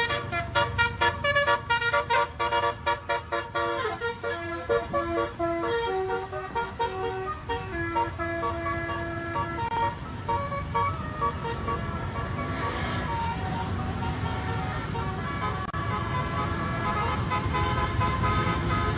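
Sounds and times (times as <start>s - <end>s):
multi-tone horn playing a tune: 0.0s - 18.9s
vehicle engine rumble: 0.0s - 18.9s.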